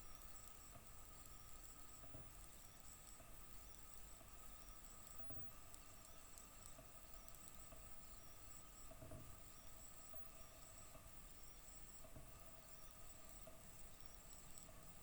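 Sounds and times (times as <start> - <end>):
laser marking machine hum and whine: 0.0 - 15.0.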